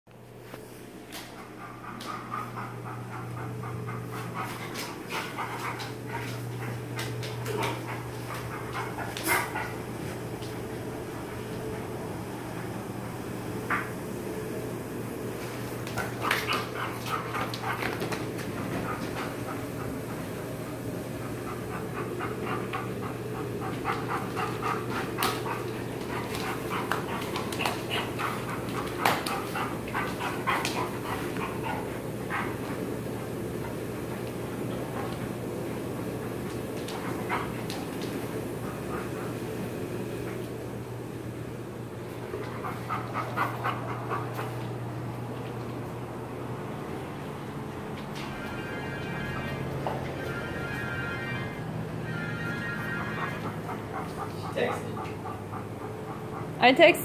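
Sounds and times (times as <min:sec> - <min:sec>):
steady low hum: 0:00.1 - 0:57.0
dog panting: 0:01.0 - 0:14.0, 0:15.2 - 0:46.6, 0:53.1 - 0:57.0.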